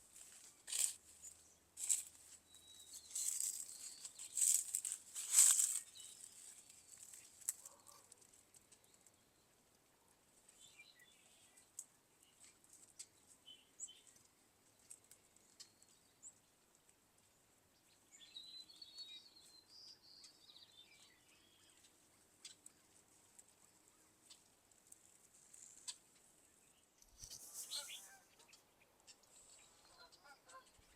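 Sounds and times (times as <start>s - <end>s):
faint birds chirping: 0.0s - 30.9s.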